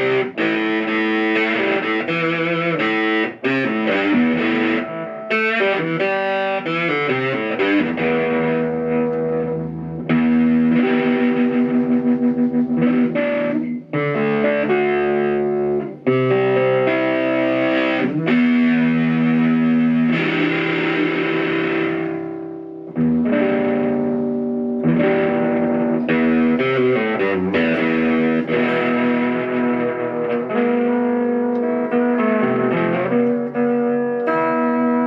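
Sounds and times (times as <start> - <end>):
distorted electric guitar chords: 0.0 - 35.0.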